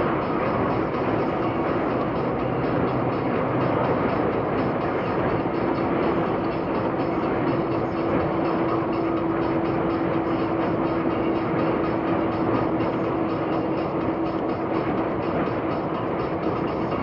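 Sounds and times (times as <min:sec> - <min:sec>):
car road and engine noise: 0:00.0 - 0:17.0
constant hum: 0:00.0 - 0:17.0.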